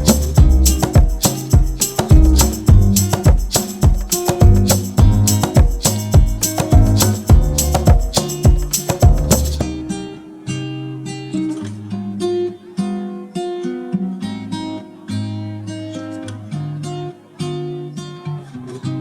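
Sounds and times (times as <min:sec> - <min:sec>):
guitar chords strummed and picked: 0:00.0 - 0:19.0.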